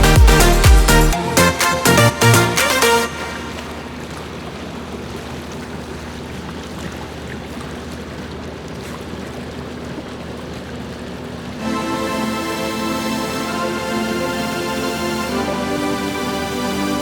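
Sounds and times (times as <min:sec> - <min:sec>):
low steady hum: 0:00.0 - 0:17.0
water rushing along hulls: 0:00.0 - 0:17.0.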